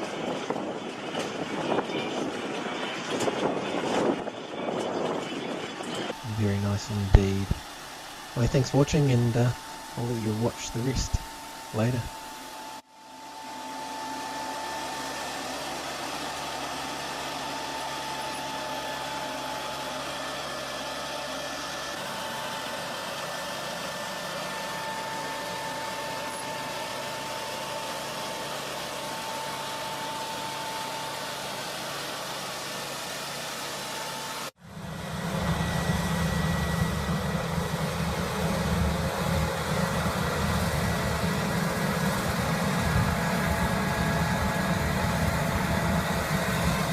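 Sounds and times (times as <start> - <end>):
deep loud engine: 0.0 - 46.9
machine engine whining: 0.0 - 46.9.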